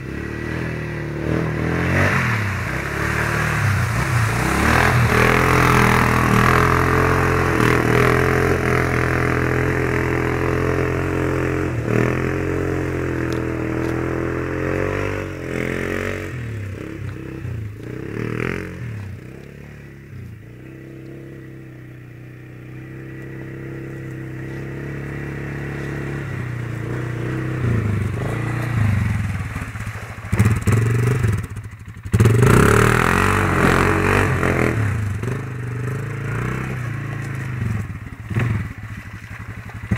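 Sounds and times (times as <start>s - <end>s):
mud and water splashing: 0.0s - 39.9s
quad engine revving: 0.0s - 39.9s.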